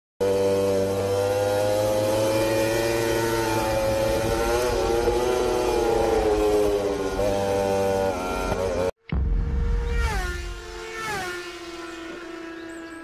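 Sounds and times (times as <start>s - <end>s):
racing motorcycle engine high revs: 0.2s - 13.0s.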